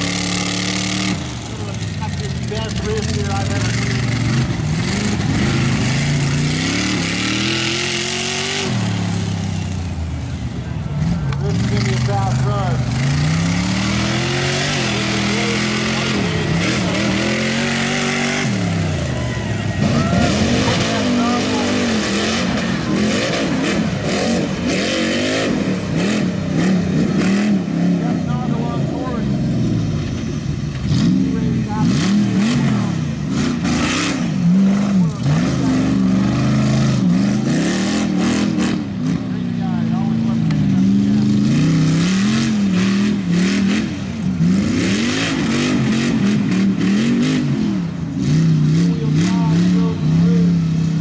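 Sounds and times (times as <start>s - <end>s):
engine revving hard: 0.0s - 9.8s, 11.0s - 30.0s, 30.8s - 50.6s.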